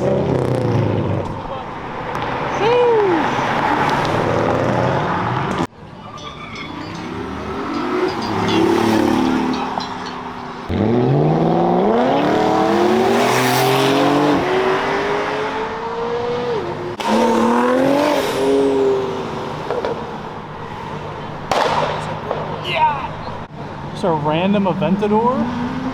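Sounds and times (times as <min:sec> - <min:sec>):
sports car engine accelerating: 0:00.0 - 0:05.7, 0:07.2 - 0:22.3.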